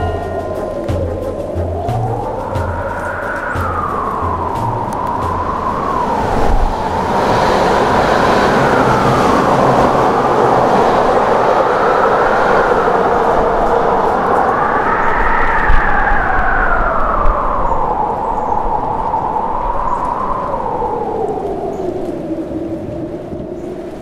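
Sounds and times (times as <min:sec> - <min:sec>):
gusty wind howling: 0:00.0 - 0:24.0.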